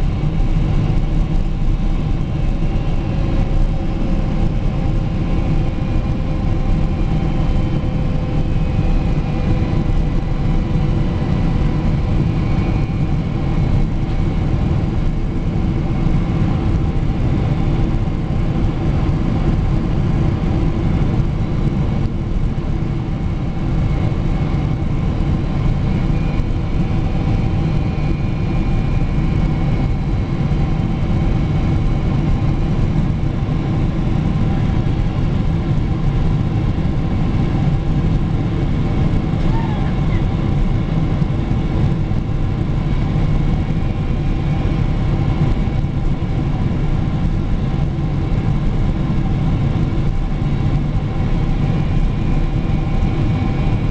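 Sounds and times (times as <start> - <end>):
airplane cabin engine drone: 0.0 - 53.9.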